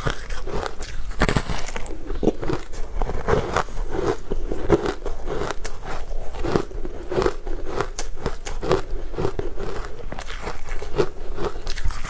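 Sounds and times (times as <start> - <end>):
crunchy chewing of cake: 0.0 - 12.0.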